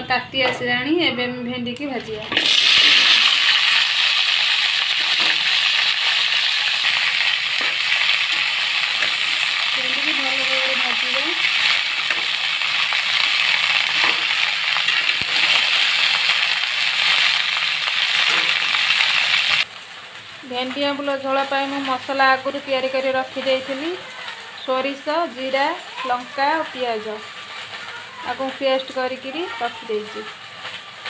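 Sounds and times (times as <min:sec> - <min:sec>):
okra sizzling in oil: 0:02.3 - 0:31.0.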